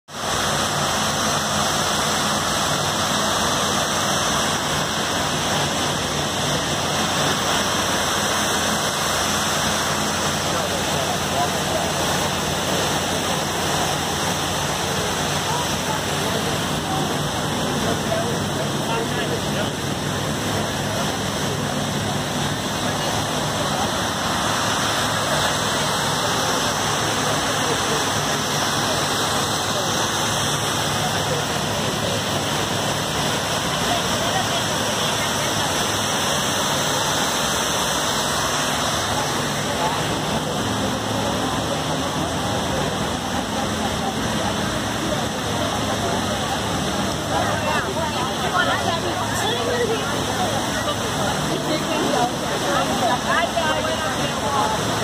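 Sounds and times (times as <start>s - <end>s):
water cascading into a pool: 0.0s - 55.0s.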